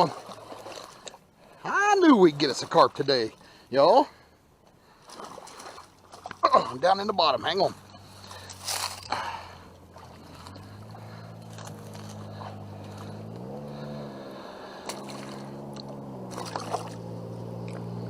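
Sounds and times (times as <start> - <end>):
water splashing: 0.0 - 4.2, 4.8 - 18.0
small boat motor humming: 0.0 - 18.0.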